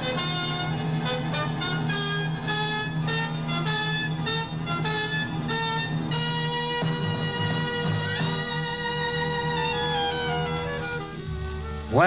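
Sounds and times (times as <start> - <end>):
short-note melody: 0.0 - 12.0.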